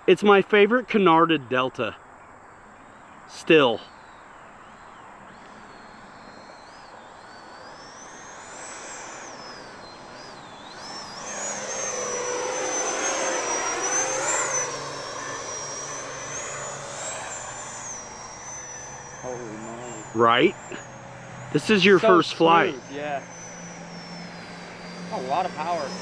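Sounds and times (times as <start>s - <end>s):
model jet fan whining: 0.0s - 26.0s.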